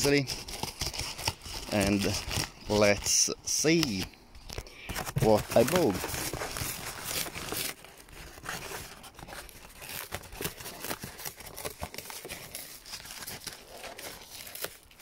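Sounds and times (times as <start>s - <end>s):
cardboard box ripping: 0.0s - 4.0s, 5.0s - 15.0s
cardboard crinkling: 0.0s - 15.0s.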